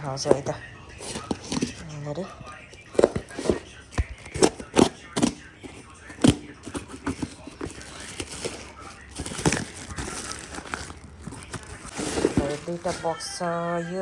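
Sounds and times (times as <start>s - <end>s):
rustling plastic and cardboard packaging: 0.0s - 13.7s.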